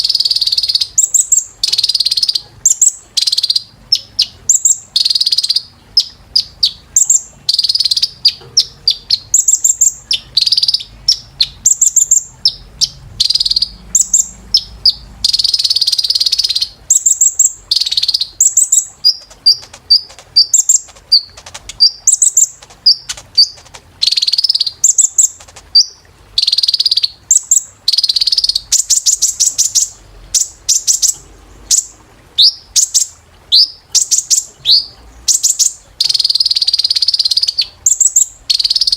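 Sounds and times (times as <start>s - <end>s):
bird singing high chirps: 0.0s - 38.9s
buzzy bird trills: 0.0s - 38.9s.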